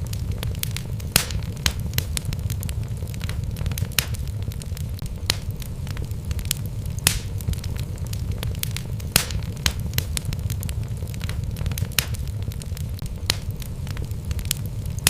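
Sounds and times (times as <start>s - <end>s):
fire rumbling: 0.0s - 15.0s
wood crackling and popping: 0.0s - 15.0s.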